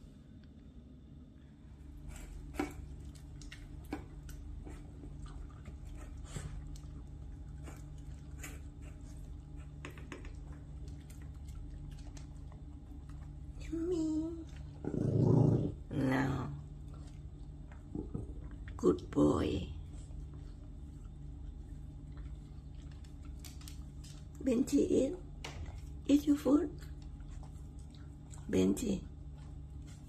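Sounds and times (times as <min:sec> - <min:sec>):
chewing and licking: 0:02.3 - 0:14.8, 0:16.6 - 0:24.4, 0:25.2 - 0:30.0
dogs eating from metal bowls: 0:02.3 - 0:14.9, 0:15.7 - 0:30.0.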